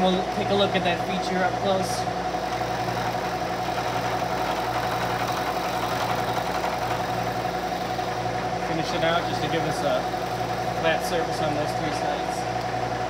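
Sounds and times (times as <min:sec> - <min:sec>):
milling machine hum and whine: 0:00.0 - 0:13.0.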